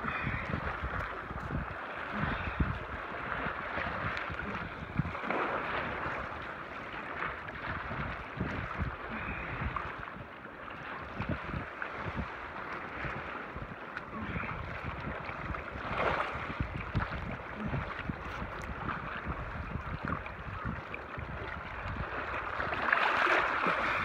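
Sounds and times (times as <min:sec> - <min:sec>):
waves splashing against boulders: 0:00.0 - 0:24.0
wind buffeting microphone: 0:00.0 - 0:24.0.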